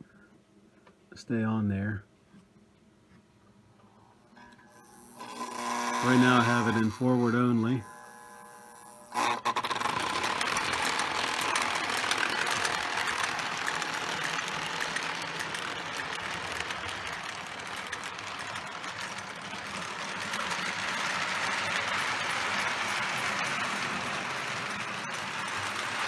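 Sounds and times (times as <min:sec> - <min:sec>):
toy train motor whirring: 0:04.4 - 0:26.0
wheels rolling on track: 0:04.4 - 0:26.0.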